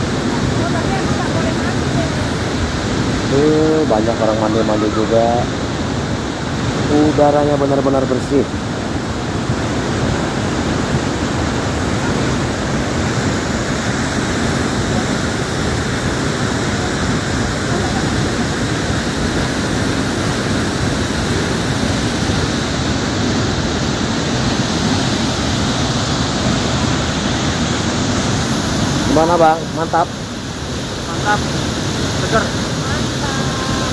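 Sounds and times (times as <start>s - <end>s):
waterfall and stream rushing: 0.0s - 33.9s.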